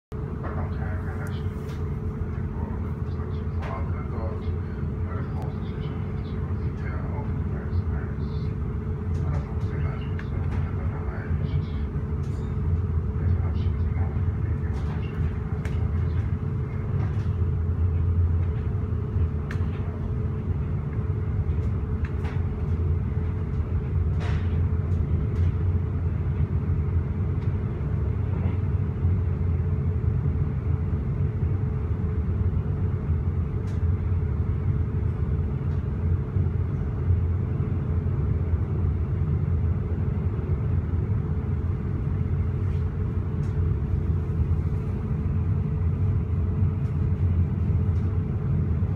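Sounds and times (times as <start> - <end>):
train running rumble: 0.1 - 48.9
faint steady hum: 0.2 - 48.9.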